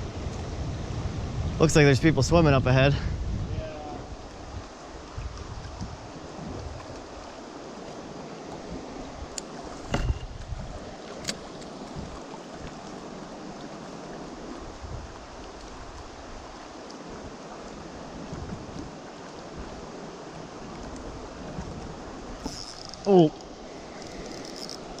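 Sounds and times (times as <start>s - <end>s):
river water rushing: 3.7s - 25.0s.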